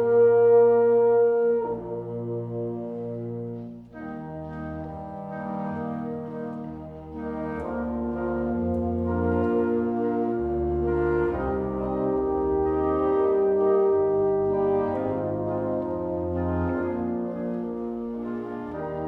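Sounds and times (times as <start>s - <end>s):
slow music of long held chords: 0.0s - 19.0s.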